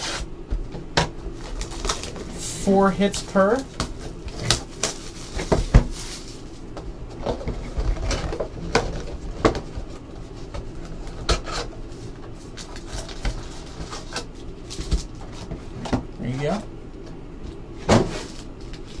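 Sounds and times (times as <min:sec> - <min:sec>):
cardboard rustling: 0:00.9 - 0:16.6, 0:17.5 - 0:19.0.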